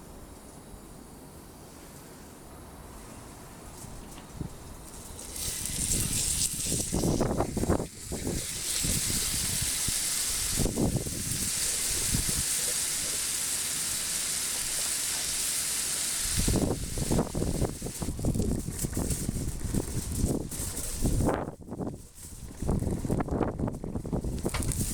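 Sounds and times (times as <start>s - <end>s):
steak sizzling on hot iron: 4.8s - 24.9s.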